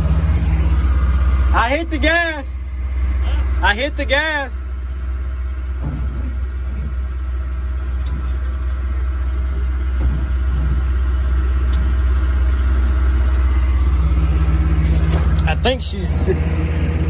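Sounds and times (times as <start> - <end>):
diesel engine revving with rod knock: 0.0 - 17.0.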